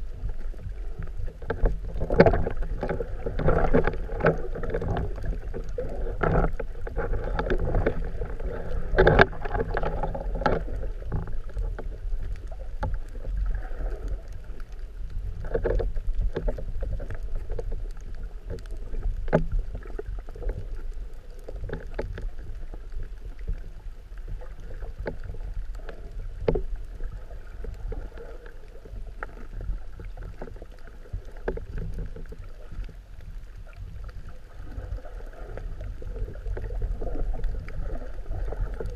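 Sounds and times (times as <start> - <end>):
low rumble of water movement: 0.0 - 38.9
underwater clicks and crackles: 0.0 - 38.9.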